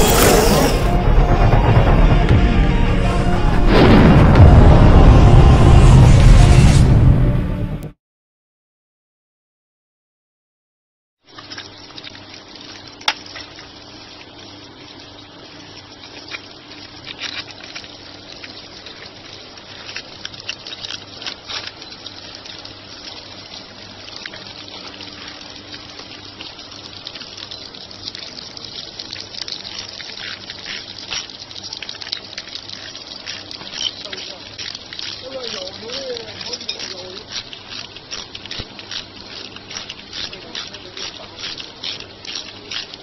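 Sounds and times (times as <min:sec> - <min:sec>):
water rushing: 0:00.0 - 0:06.9, 0:11.7 - 0:43.0.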